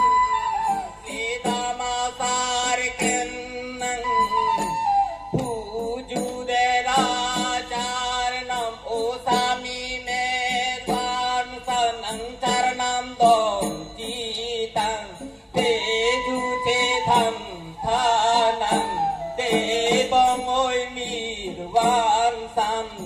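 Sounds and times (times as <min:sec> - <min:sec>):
person singing folk melody: 0:00.0 - 0:23.0
traditional instruments: 0:00.0 - 0:23.0
steady drum beat: 0:01.1 - 0:23.0.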